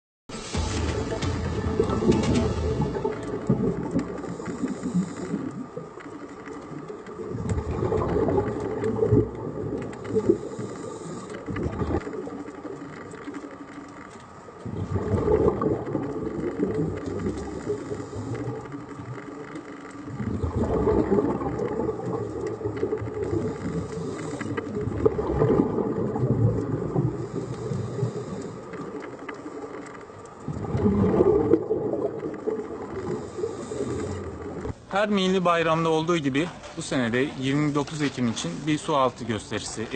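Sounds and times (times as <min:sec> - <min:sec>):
underwater bubbling exhalations: 0:00.4 - 0:34.9.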